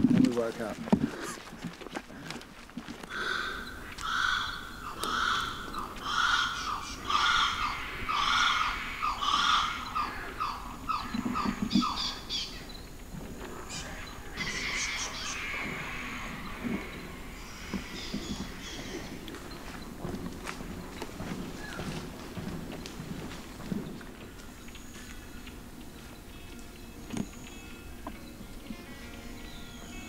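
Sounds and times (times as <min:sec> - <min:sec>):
animal calling: 0:03.0 - 0:30.0.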